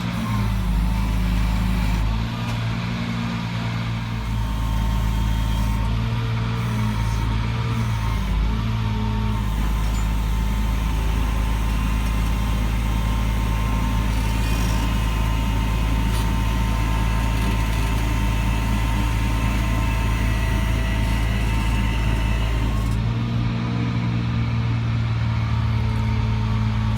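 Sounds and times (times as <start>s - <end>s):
truck engine rumbling: 0.0s - 26.9s.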